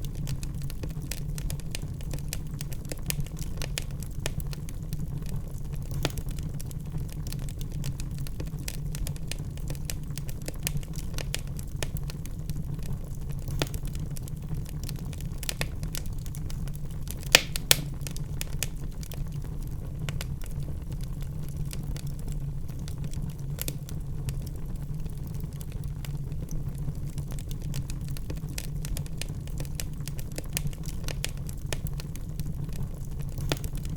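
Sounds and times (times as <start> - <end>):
fire popping: 0.0 - 33.9
wood fire crackling: 0.0 - 33.9.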